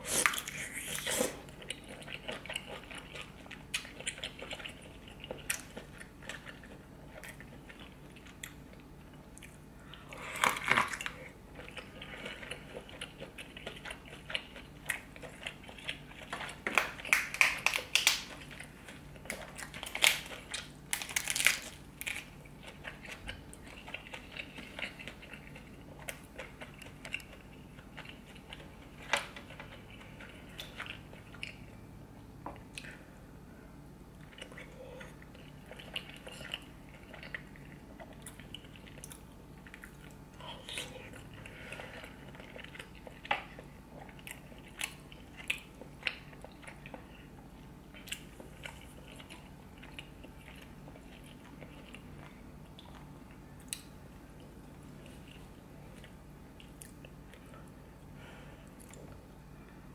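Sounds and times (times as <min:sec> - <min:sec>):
wet chewing with mouth clicks: 0:00.0 - 0:31.8, 0:34.1 - 0:59.3.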